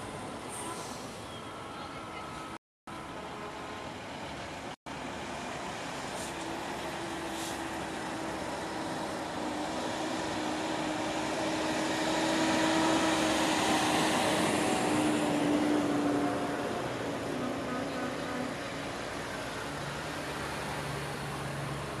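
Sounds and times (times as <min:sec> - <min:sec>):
trucks driving past: 0:00.0 - 0:22.0.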